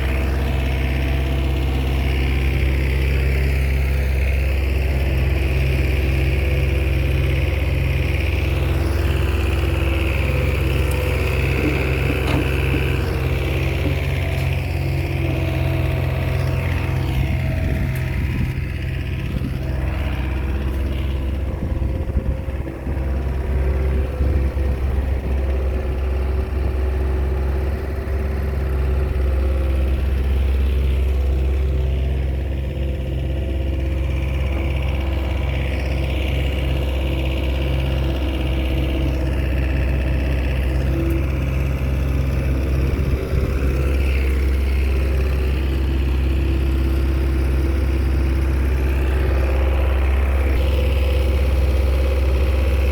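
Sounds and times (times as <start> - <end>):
bulldozer diesel engine droning: 0.0 - 52.9.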